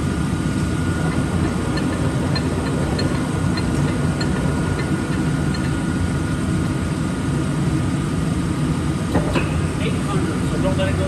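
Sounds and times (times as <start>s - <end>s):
lathe humming: 0.0s - 11.0s.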